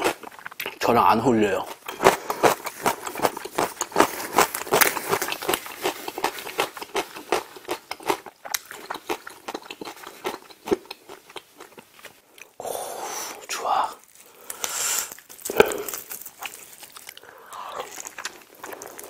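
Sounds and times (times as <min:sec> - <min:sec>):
wet chewing clicks: 0:00.0 - 0:00.9, 0:01.6 - 0:12.6, 0:14.2 - 0:19.0.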